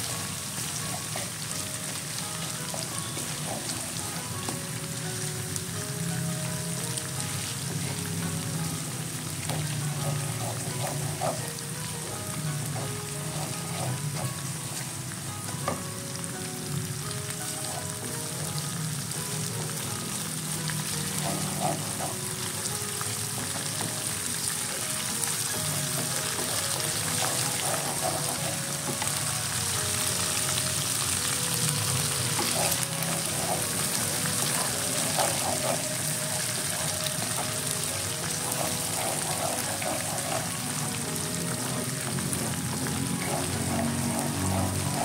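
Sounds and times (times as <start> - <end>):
spice paste sizzling in hot oil: 0.0 - 45.0
wooden spatula stirring in wok: 0.1 - 15.9, 16.8 - 45.0.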